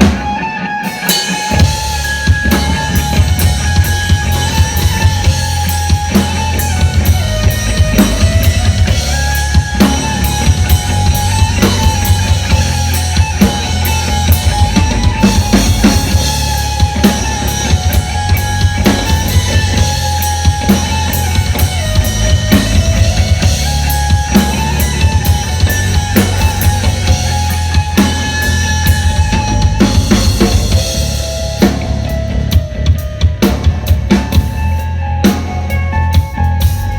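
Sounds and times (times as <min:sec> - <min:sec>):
drum kit beat: 0:00.0 - 0:36.9
lead line long notes: 0:00.0 - 0:36.9
heavy sustained bass: 0:01.5 - 0:36.9.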